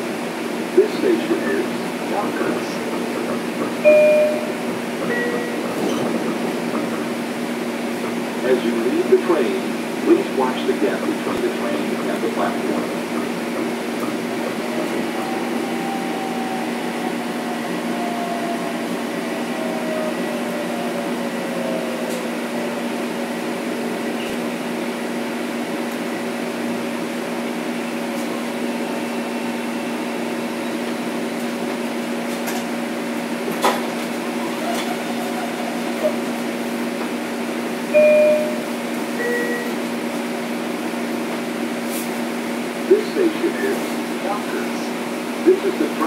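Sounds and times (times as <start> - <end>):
train electrical hum: 0.0 - 46.0.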